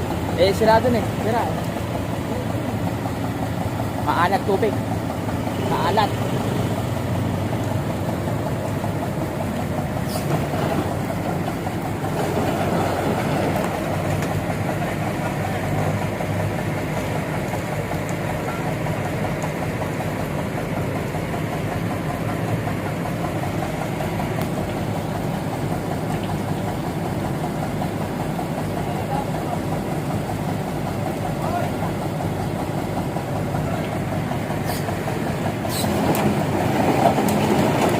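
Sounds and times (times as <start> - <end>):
heavy engine running: 0.0 - 37.9.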